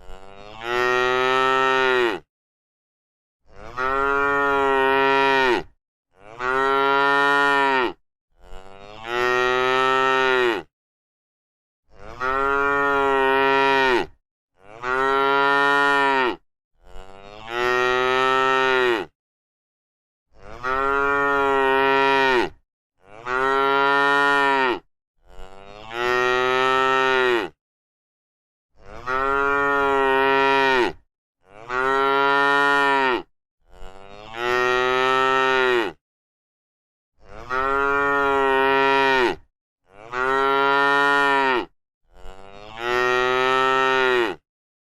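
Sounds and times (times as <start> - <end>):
cow mooing: 0.0 - 2.3, 3.5 - 10.7, 12.0 - 19.1, 20.4 - 27.6, 28.8 - 36.0, 37.2 - 44.4.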